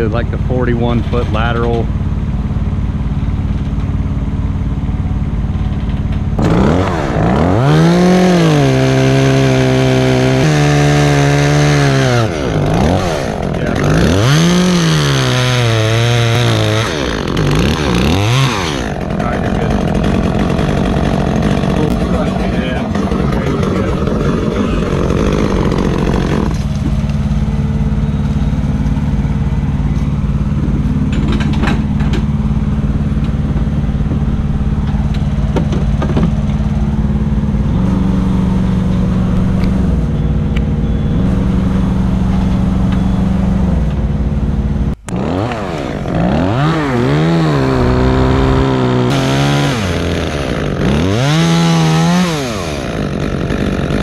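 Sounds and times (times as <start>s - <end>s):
engine running: 0.0s - 54.0s
chainsaw revving: 6.4s - 54.0s.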